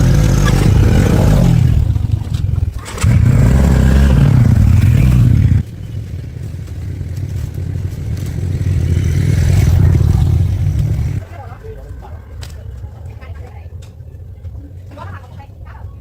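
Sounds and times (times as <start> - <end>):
engine running: 0.0 - 15.7.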